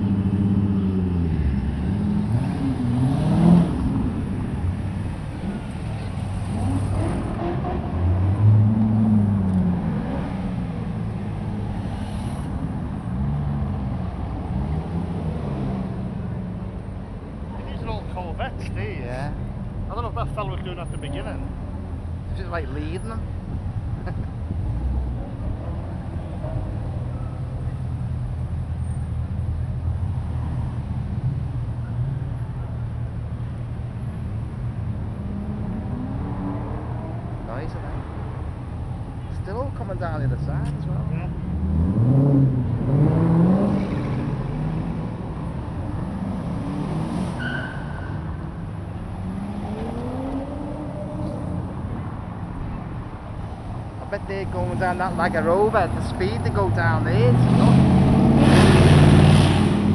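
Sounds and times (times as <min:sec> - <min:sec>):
car engines driving past: 0:00.0 - 0:59.9.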